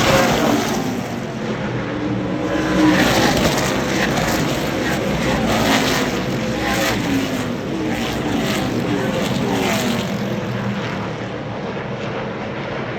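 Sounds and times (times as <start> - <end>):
race trucks passing at speed: 0.0 - 11.4.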